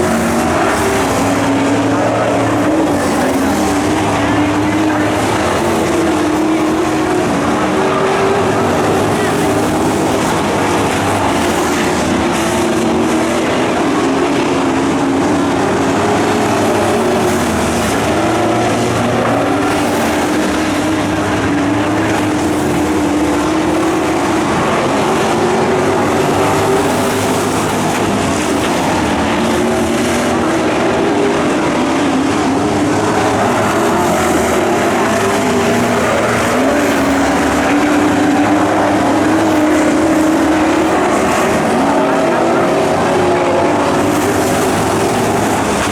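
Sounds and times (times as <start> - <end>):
racing truck engines revving: 0.0 - 45.9.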